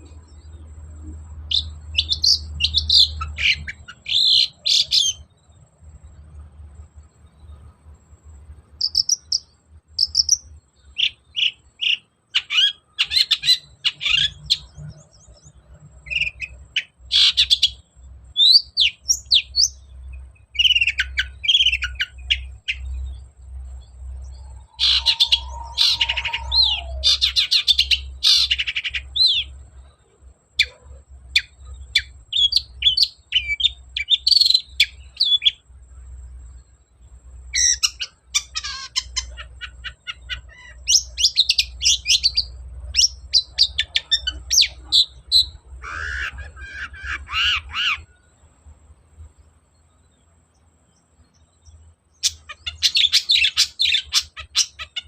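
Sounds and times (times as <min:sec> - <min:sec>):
bird singing chattering song: 0:00.0 - 0:55.0.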